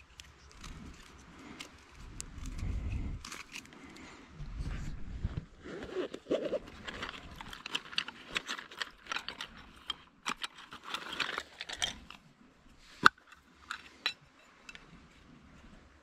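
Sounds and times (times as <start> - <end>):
rustling of gear in leather pouch: 0.0 - 15.8.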